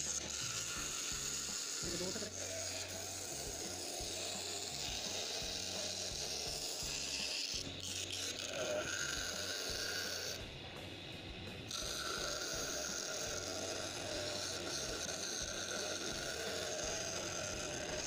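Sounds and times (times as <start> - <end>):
grinding stone on acrylic: 0.0 - 18.0
lathe motor hum: 0.0 - 18.0.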